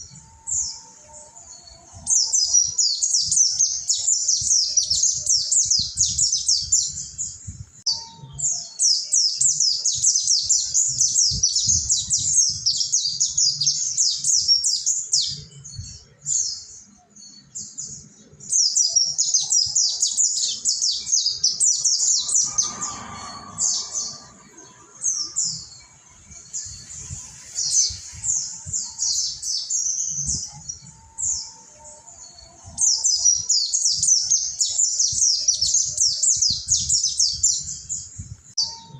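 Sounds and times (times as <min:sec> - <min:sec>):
birds twittering song: 0:00.0 - 0:38.9.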